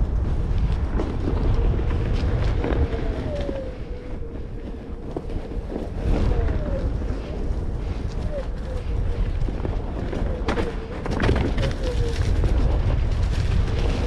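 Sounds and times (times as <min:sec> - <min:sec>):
tire ticking over trail: 0:00.0 - 0:14.0
wind buffeting microphone: 0:00.0 - 0:14.0.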